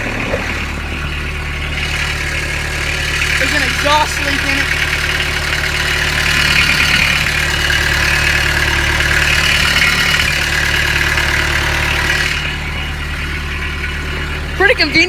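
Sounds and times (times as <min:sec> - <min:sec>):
diesel engine idling: 0:00.0 - 0:15.0
exhaust leak noise: 0:00.0 - 0:15.0
higher noise over idle: 0:00.0 - 0:15.0.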